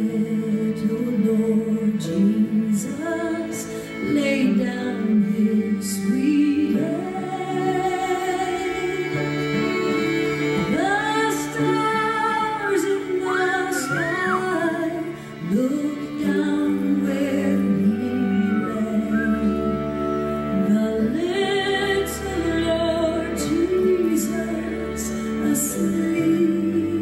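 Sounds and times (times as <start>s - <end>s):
instrumental accompaniment: 0.0s - 27.0s
woman singing slow song: 0.0s - 27.0s.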